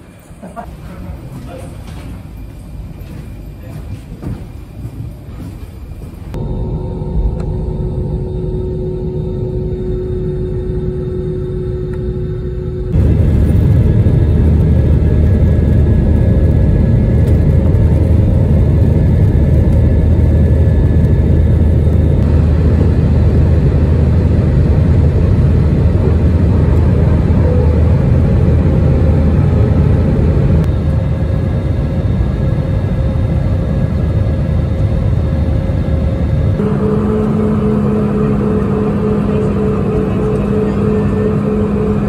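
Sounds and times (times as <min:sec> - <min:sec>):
jet engines roaring in cabin: 0:00.0 - 0:42.0.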